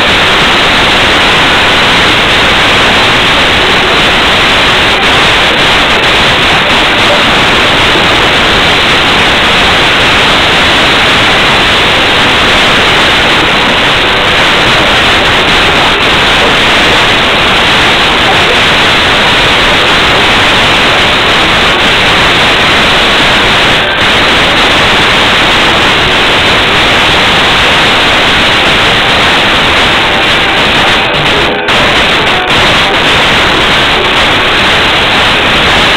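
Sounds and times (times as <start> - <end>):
loud static hiss: 0.0 - 35.9.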